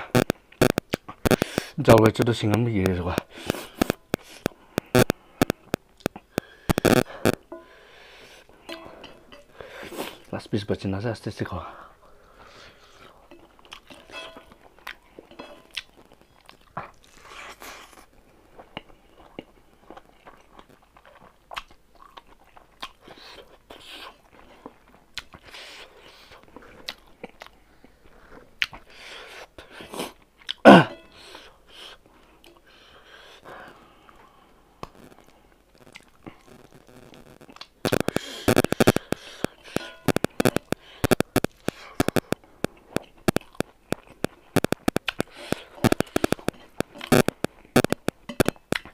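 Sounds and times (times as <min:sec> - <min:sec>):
person chewing with mouth clicks: 0:00.0 - 0:07.6, 0:12.9 - 0:29.0, 0:29.6 - 0:31.5, 0:33.4 - 0:48.9.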